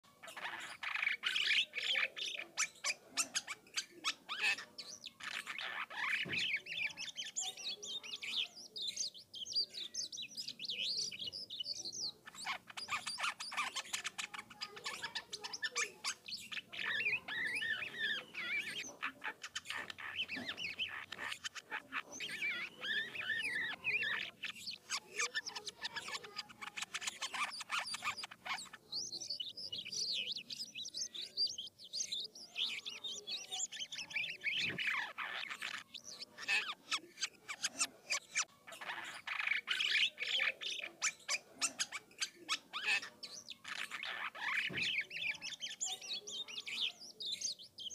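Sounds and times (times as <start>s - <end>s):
starling singing: 0.0s - 47.9s.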